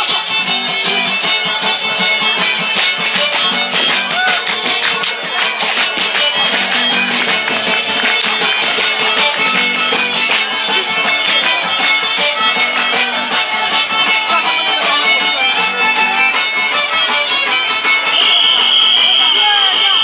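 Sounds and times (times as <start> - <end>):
fast traditional violin: 0.0 - 20.0
sharp rhythmic beats: 0.0 - 20.0.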